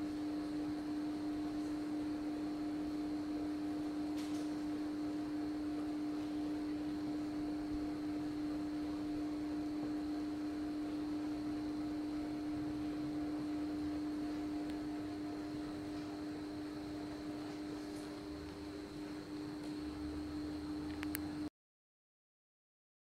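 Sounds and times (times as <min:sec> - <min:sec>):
low steady hum: 0:00.0 - 0:21.5.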